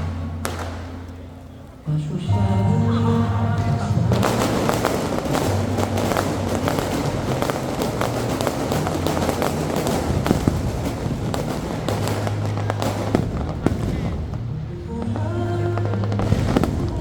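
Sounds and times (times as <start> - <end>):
fireworks crackling and banging: 0.0 - 1.3, 3.6 - 17.0.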